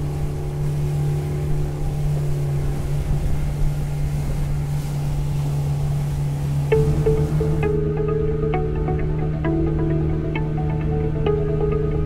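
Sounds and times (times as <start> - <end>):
outboard motor droning: 0.0 - 12.0
water rushing past hull: 0.0 - 12.0.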